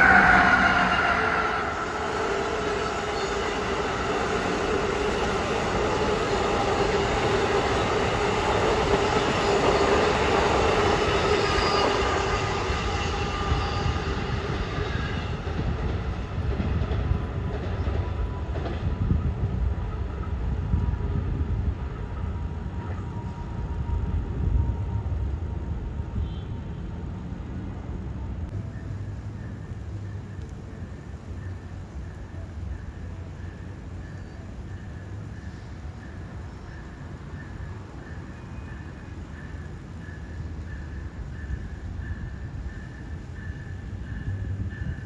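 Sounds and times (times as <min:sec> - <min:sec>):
train rumbling on rails: 0:00.0 - 0:45.0
train whine: 0:00.0 - 0:45.0.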